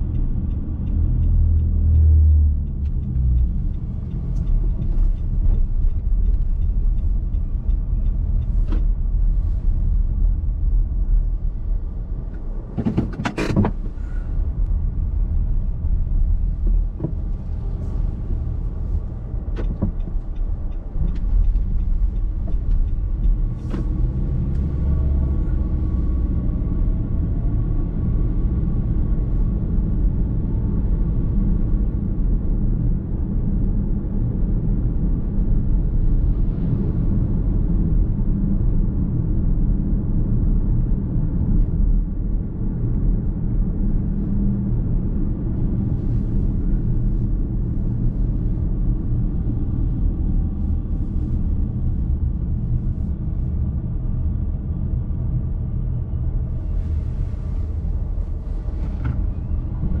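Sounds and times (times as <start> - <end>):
car road and tyre noise: 0.0 - 60.0.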